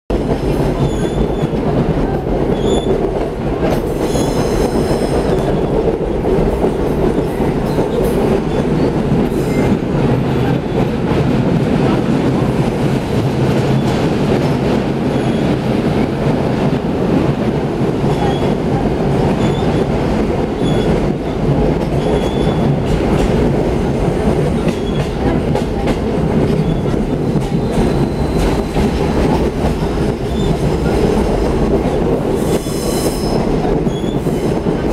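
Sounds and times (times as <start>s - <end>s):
train wheels rumbling: 0.1s - 34.9s.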